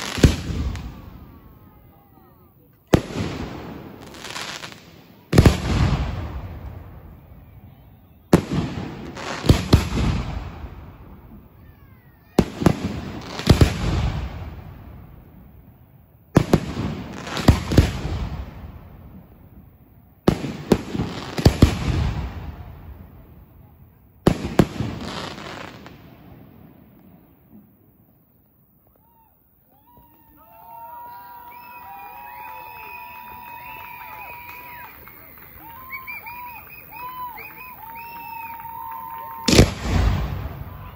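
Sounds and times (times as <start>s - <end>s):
fireworks bangs: 0.0s - 2.2s, 2.8s - 27.9s, 29.9s - 40.9s.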